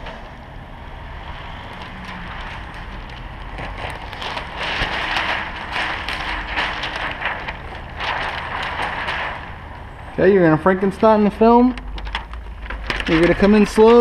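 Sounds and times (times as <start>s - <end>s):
low steady rumble: 0.0s - 14.0s
plastic film rustling and crackling: 1.2s - 14.0s.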